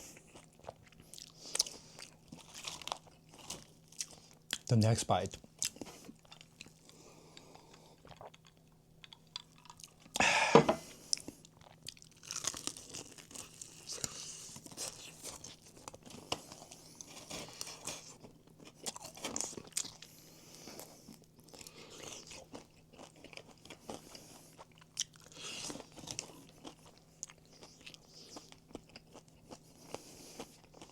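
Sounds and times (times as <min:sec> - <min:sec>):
crunching bites and chews: 0:00.1 - 0:04.7, 0:05.3 - 0:10.2, 0:11.1 - 0:30.9.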